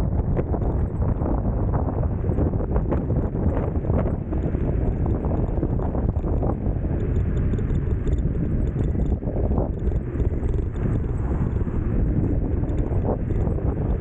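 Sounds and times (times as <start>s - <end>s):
scooter ride rumble: 0.0s - 14.0s
wind buffeting microphone: 0.0s - 14.0s.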